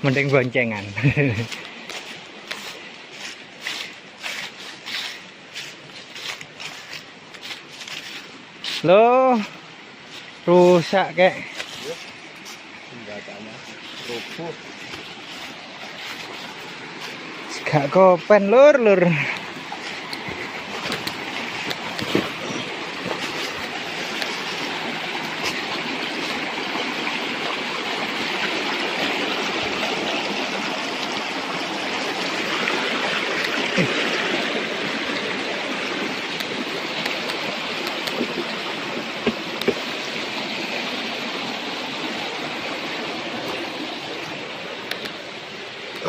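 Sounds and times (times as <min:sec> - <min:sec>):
stream water rushing: 0:00.0 - 0:46.0.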